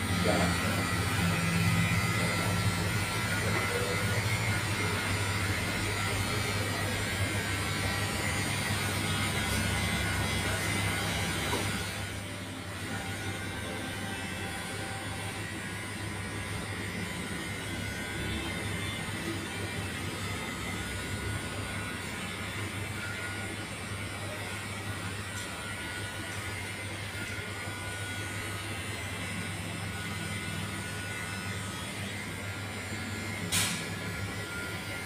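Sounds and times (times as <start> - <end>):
electric hair clippers buzzing: 0.0 - 35.0.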